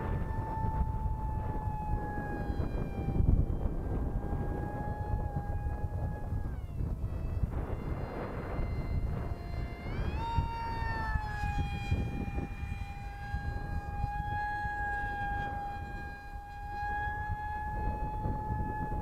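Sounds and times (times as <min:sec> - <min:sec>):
electric motor whining: 0:00.0 - 0:19.0
wind buffeting microphone: 0:00.0 - 0:19.0.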